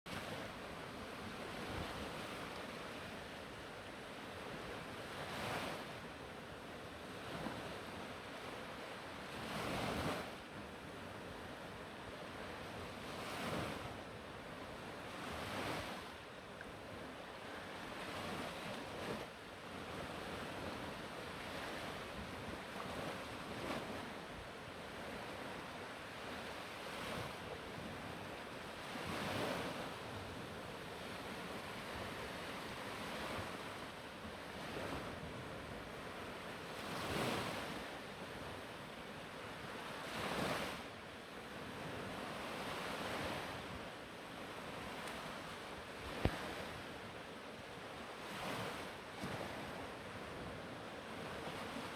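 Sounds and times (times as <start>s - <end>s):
waves breaking on shore: 0.1s - 51.9s.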